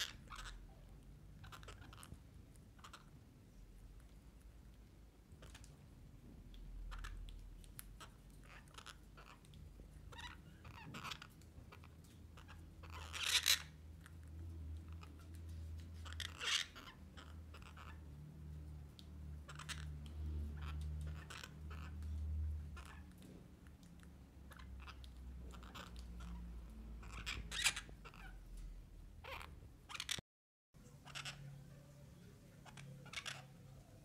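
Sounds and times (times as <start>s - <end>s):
parakeets clicking and crunching food: 0.0s - 30.2s, 30.8s - 34.0s.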